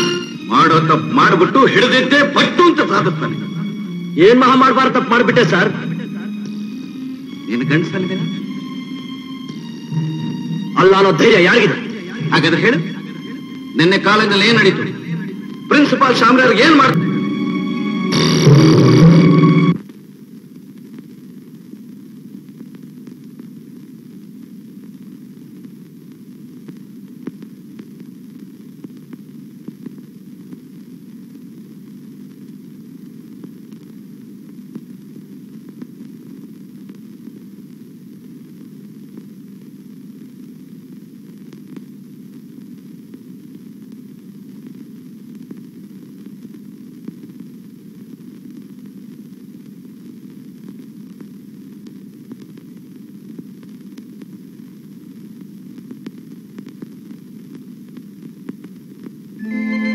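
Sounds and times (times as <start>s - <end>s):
film soundtrack hiss: 0.0s - 59.9s.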